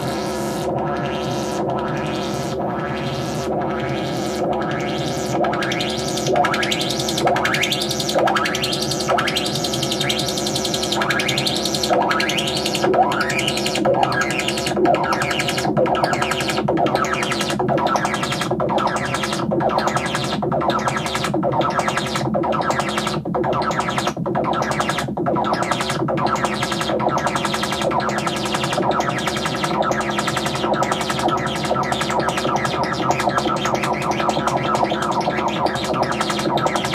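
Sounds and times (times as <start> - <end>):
pulsing synthesizer drone: 0.0 - 36.9.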